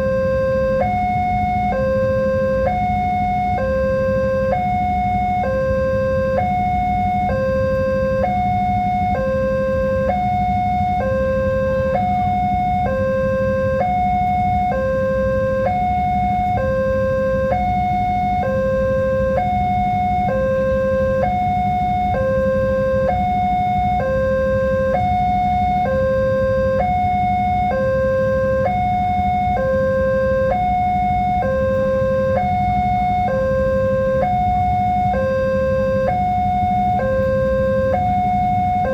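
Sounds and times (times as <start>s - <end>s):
level-crossing alarm two tones: 0.0s - 38.9s
steady low hum: 0.0s - 38.9s.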